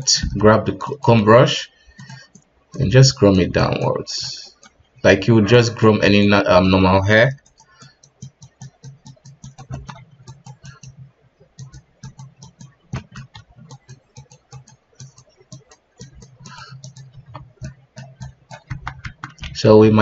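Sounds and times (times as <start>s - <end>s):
mouse and keyboard clicking: 0.0s - 4.8s, 6.6s - 20.0s.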